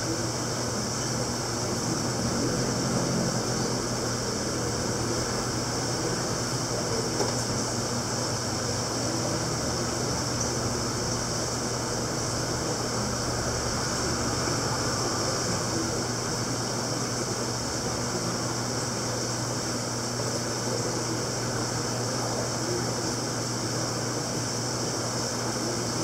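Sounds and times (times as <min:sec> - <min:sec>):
aquarium pump humming: 0:00.0 - 0:26.0.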